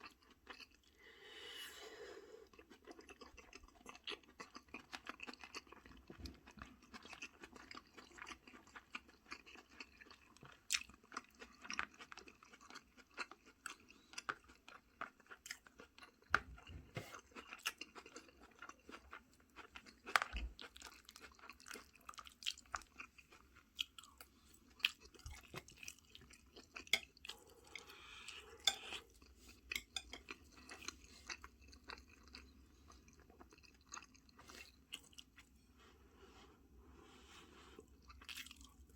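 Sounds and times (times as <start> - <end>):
chewing food crunches: 2.5 - 27.5, 29.7 - 35.5, 37.9 - 38.9.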